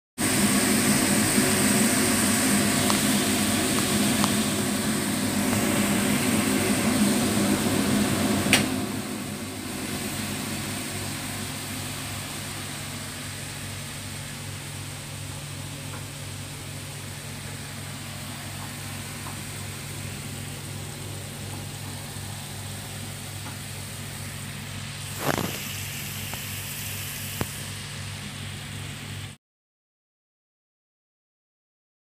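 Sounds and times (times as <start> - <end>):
extractor fan humming: 0.2 - 29.4.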